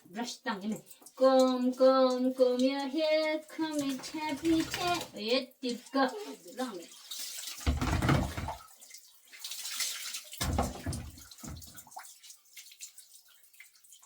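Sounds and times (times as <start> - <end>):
water dripping: 0.0 - 14.0
water pouring and splashing: 0.0 - 14.0.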